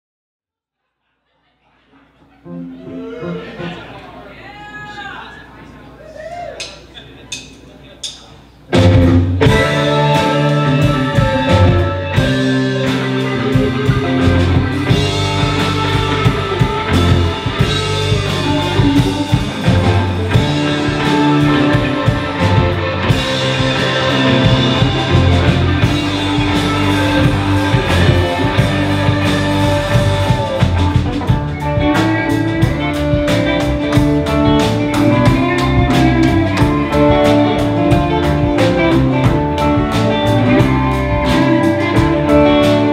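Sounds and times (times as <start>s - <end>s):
live rock band playing: 2.4s - 4.2s, 8.6s - 42.9s.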